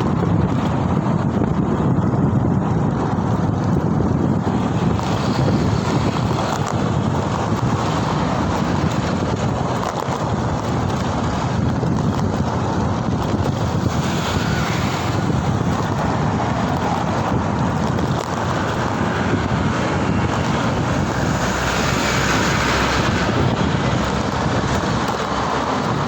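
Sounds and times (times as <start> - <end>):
road and traffic noise: 0.0 - 26.0
wind rush on microphone: 0.0 - 26.0.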